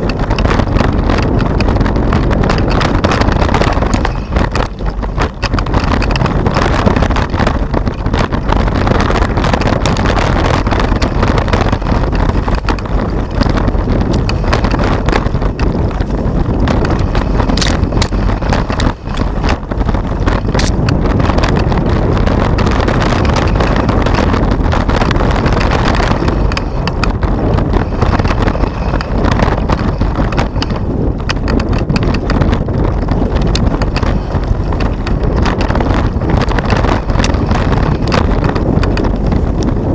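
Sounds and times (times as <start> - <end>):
bike rattling and knocking: 0.0 - 39.9
wind rush on microphone: 0.0 - 39.9.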